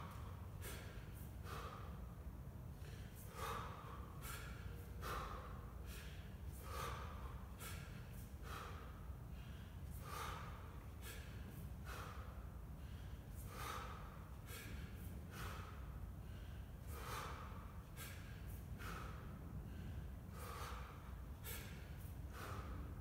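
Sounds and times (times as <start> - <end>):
man breathing forcefully: 0.0 - 23.0
steady low hum: 0.0 - 23.0.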